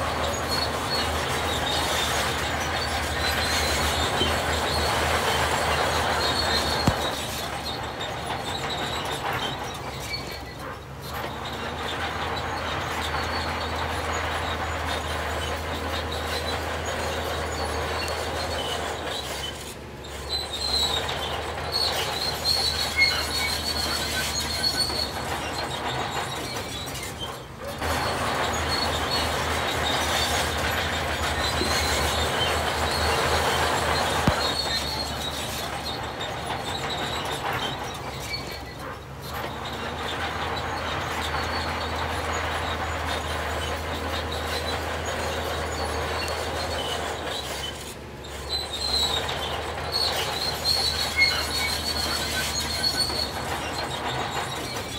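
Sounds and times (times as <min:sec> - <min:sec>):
heavy machinery engine drone: 0:00.0 - 0:54.9
metallic grinding clatter: 0:00.0 - 0:54.9
thin high squeal: 0:00.0 - 0:54.9.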